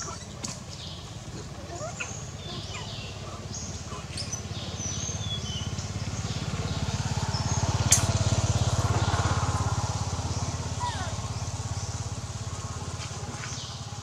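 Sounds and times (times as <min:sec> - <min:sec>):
small engine rumbling: 0:00.0 - 0:14.0.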